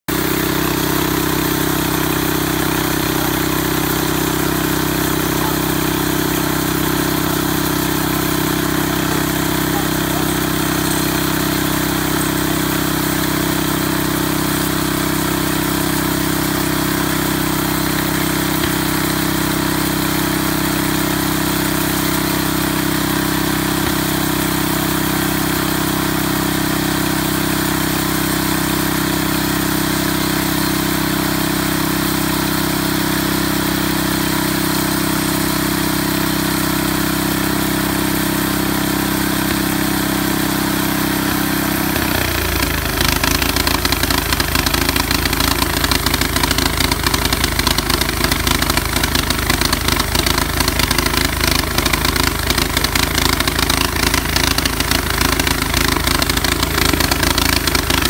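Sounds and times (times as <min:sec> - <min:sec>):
small gasoline engine running: 0:00.0 - 0:58.0
band saw cutting wood: 0:00.1 - 0:52.3.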